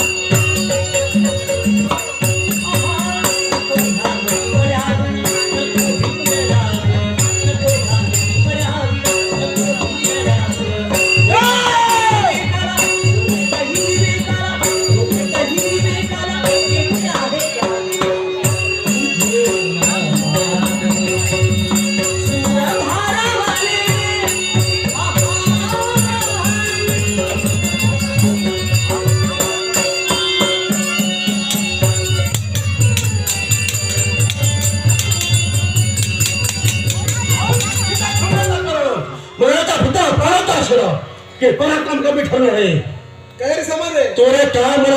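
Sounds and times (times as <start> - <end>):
rattle percussion: 0.0 - 38.9.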